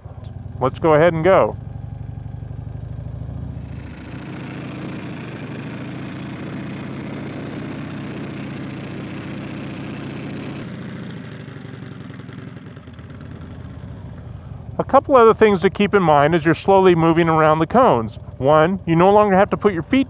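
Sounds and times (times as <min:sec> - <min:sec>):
motorcycle engine near idle: 0:00.0 - 0:20.0.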